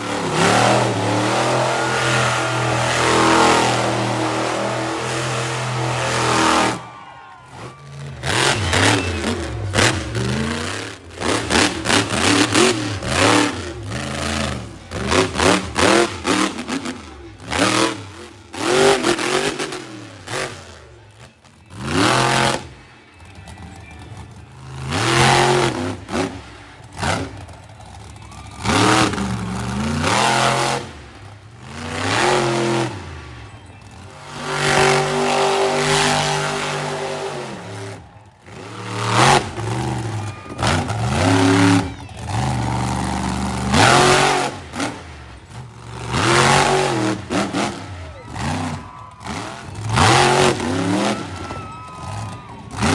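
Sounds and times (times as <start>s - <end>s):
truck engines revving hard: 0.0s - 52.9s.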